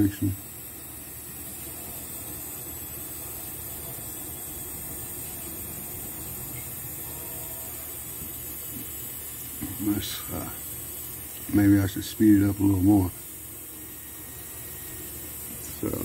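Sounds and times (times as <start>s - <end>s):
winch motor whirring: 0.0s - 16.0s.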